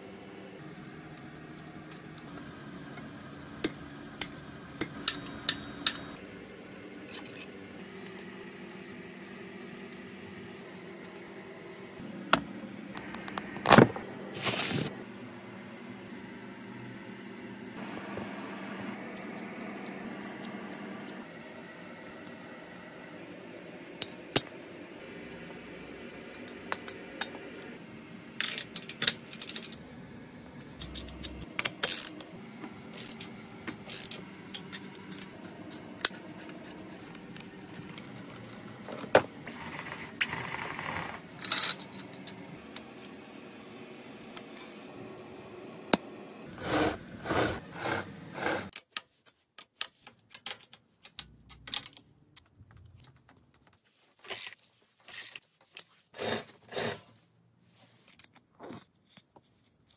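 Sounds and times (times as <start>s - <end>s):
steady background hum: 0.0s - 48.8s.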